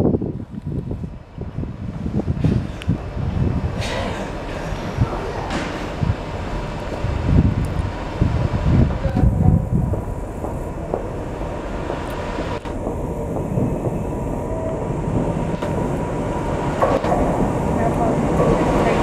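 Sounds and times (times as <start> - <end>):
locomotive low rumble: 0.0 - 19.0.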